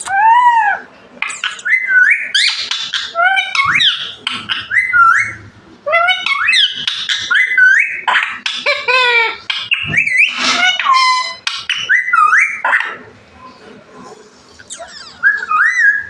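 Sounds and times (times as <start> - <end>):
parrot whistling and chattering: 0.0 - 13.0, 14.6 - 16.0.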